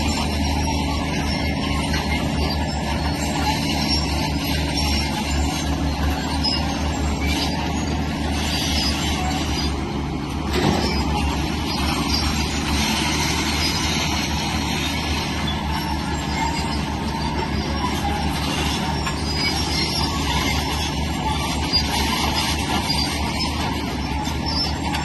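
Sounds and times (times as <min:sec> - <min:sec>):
heavy diesel engine working: 0:00.0 - 0:25.0.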